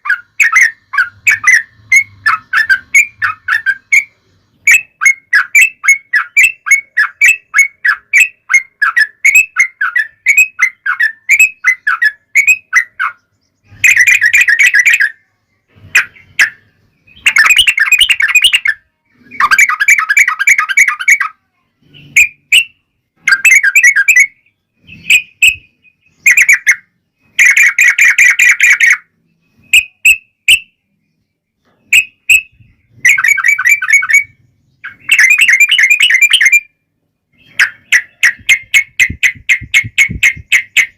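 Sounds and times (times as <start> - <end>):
bulbuls chirping and chattering: 0.0 - 40.9.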